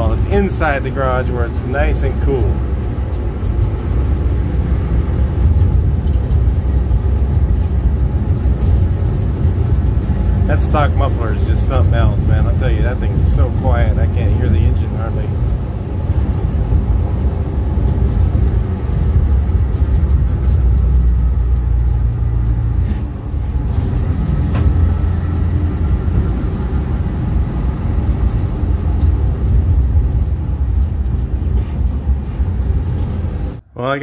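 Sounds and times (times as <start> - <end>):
pickup engine running: 0.0 - 33.6
road and driving noise: 0.0 - 34.0.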